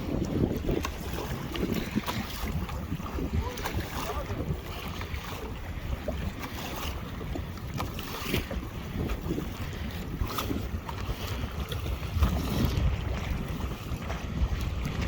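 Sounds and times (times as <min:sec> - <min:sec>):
water splashing against kayak hull: 0:00.0 - 0:15.0
wind buffeting microphone: 0:00.0 - 0:15.0.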